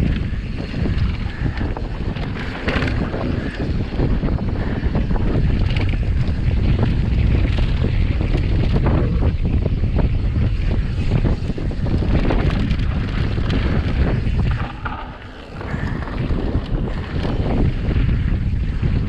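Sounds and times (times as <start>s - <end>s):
bike rattling and knocking: 0.0s - 19.0s
wind buffeting microphone: 0.0s - 19.0s.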